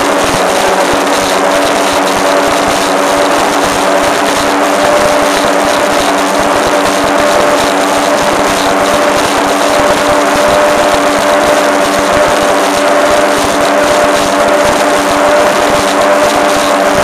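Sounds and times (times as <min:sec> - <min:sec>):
powerboat engine drone: 0:00.0 - 0:17.0
rushing wind and water: 0:00.0 - 0:17.0.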